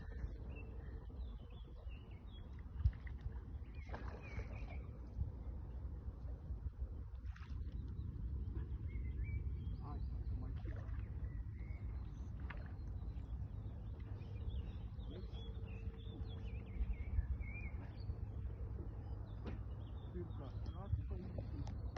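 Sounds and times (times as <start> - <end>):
low rumbling outdoor noise: 0.0 - 21.9.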